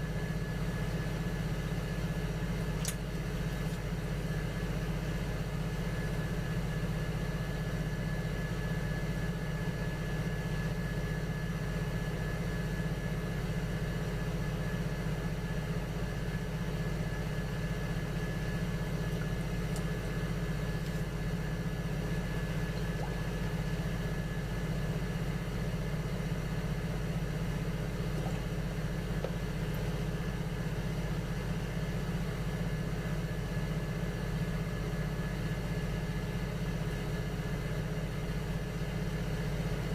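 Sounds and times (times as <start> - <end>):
potter's wheel motor humming: 0.0 - 36.2.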